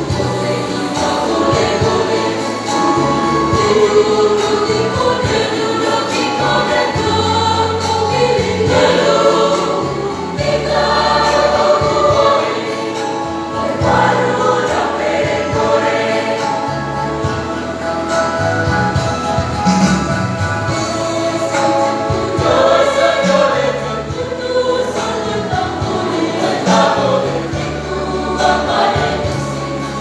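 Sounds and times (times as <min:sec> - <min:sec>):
choir singing: 0:00.0 - 0:30.0.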